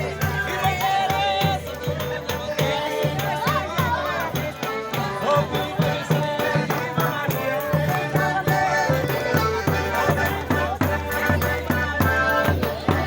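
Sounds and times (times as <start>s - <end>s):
folk music: 0.0s - 13.0s
steady drum beat: 0.0s - 13.0s.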